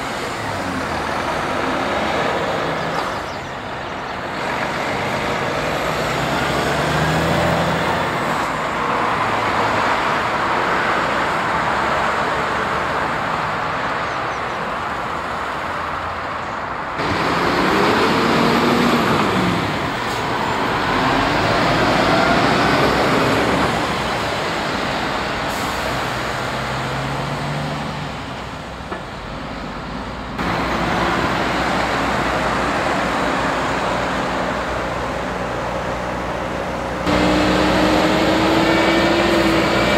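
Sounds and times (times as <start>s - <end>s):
diesel trucks driving past: 0.0s - 39.9s.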